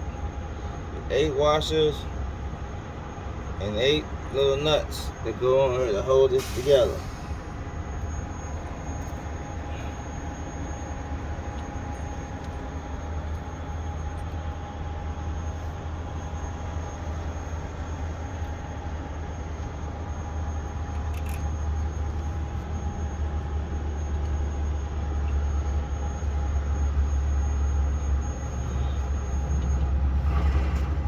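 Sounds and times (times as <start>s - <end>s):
engine rumble: 0.0s - 31.0s
faint steady whine: 0.0s - 31.0s.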